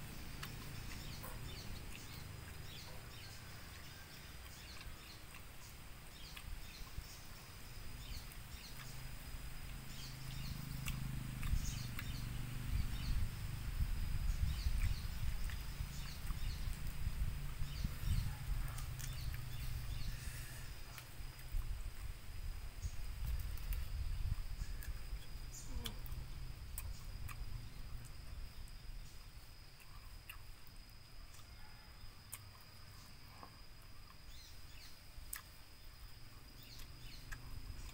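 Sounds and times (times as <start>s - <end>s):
birds chirping: 0.0s - 22.1s, 22.7s - 37.9s
high insect whine: 0.0s - 37.9s.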